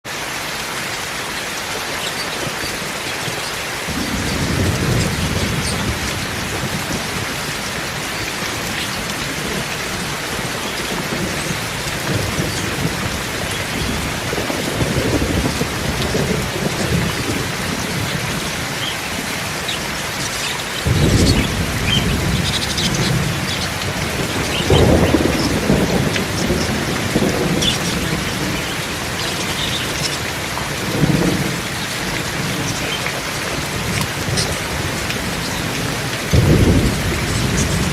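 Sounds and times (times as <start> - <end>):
steady rain falling: 0.0 - 37.9
thunder rumbling: 3.8 - 37.9.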